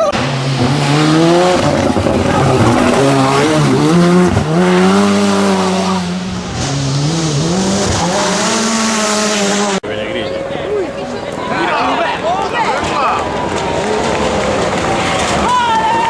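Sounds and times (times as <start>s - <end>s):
rally car engine at full throttle: 0.0s - 11.4s, 12.1s - 15.8s.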